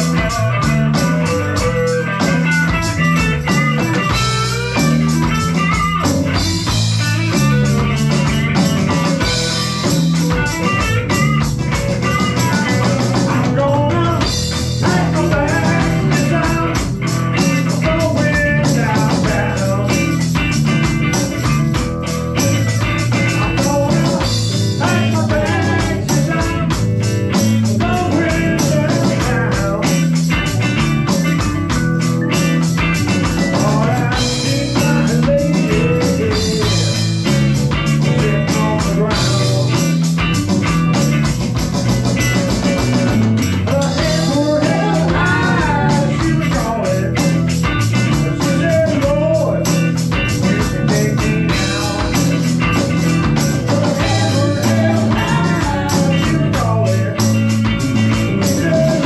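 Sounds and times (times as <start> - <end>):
drum kit: 0.0 - 59.0
electric guitars: 0.0 - 59.0
keyboard: 0.0 - 59.0.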